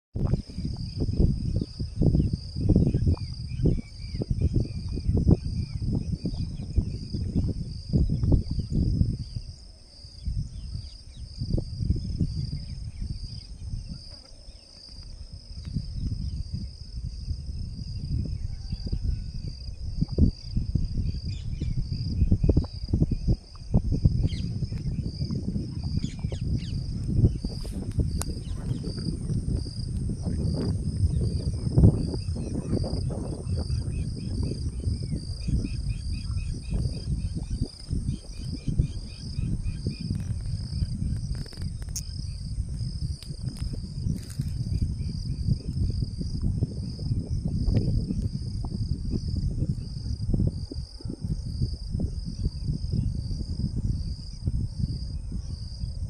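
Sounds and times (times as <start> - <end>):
cicada buzzing: 0.2 - 56.0.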